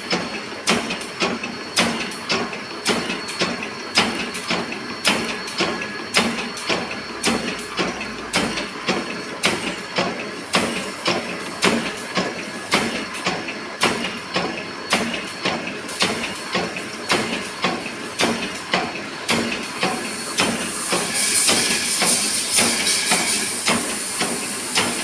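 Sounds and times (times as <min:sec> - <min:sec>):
metal shaping machine clacking: 0:00.0 - 0:25.0.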